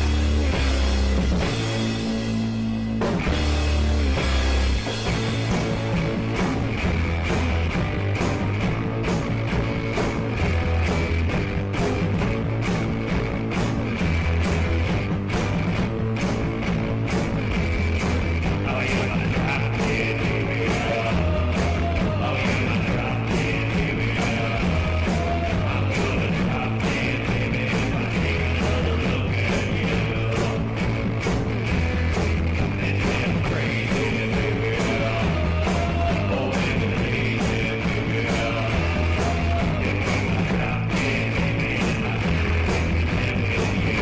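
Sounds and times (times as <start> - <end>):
rock music with drums and bass: 0.0 - 44.0.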